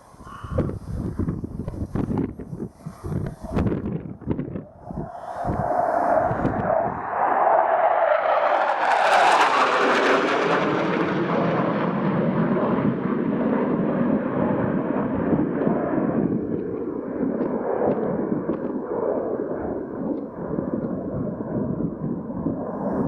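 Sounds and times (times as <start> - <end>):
jet passing close by: 2.3 - 23.0.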